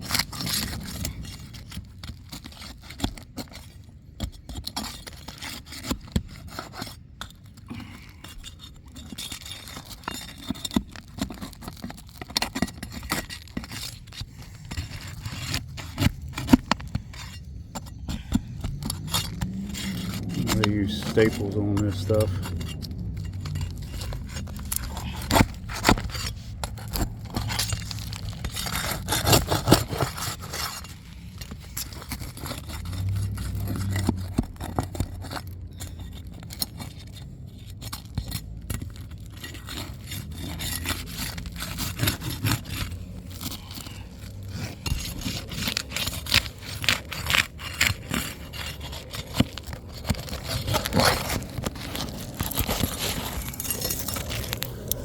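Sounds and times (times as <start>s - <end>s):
roof shingles scraping and crackling: 0.0s - 55.0s.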